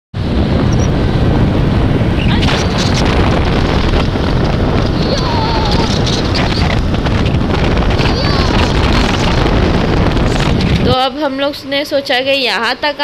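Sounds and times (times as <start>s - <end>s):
wind buffeting microphone: 0.2s - 13.0s.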